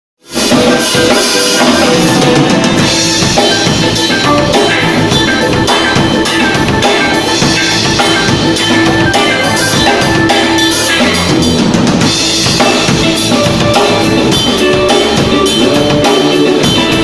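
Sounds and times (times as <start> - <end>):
live band playing: 0.2 - 17.0.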